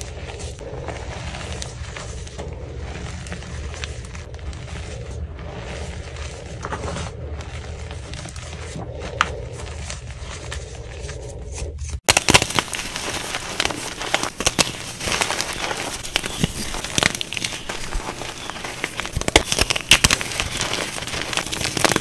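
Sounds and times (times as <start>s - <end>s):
chalk blocks crunching: 0.0s - 22.0s
chalk crumbling by hand: 0.0s - 22.0s
steady low hum: 0.0s - 22.0s.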